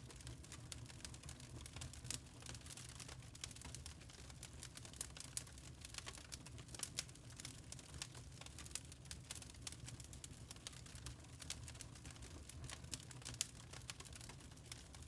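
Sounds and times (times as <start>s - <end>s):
burning charcoal crackling: 0.0s - 15.0s.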